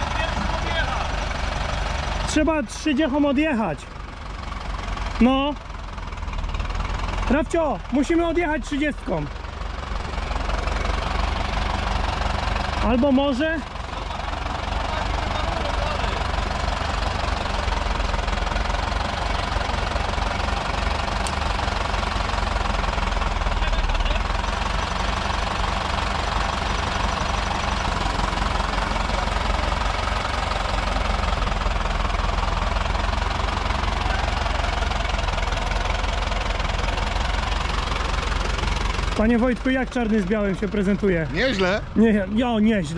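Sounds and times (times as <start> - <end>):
diesel engine idling low: 0.0 - 42.9.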